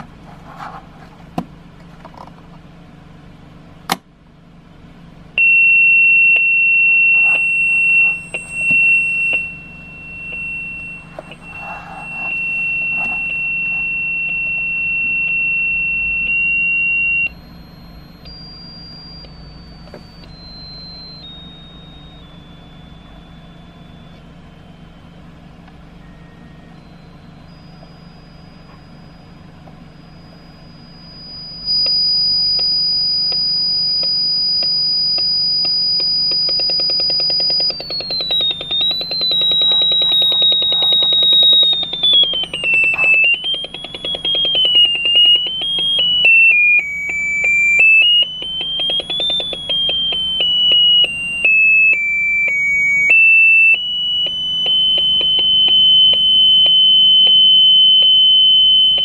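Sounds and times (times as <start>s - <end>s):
wobbling buzzing electronic tone: 5.3s - 59.0s
steady high electronic beep: 5.4s - 59.0s.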